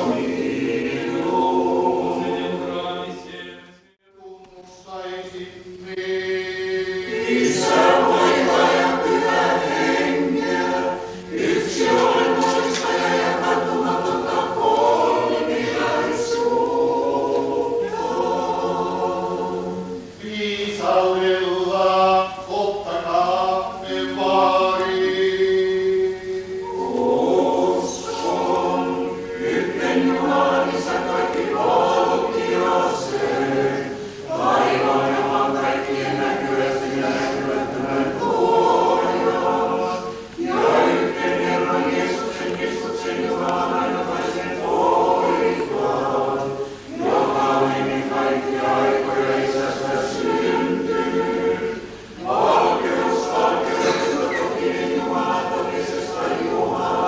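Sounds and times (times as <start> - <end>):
choir chanting a cappella: 0.0 - 57.0.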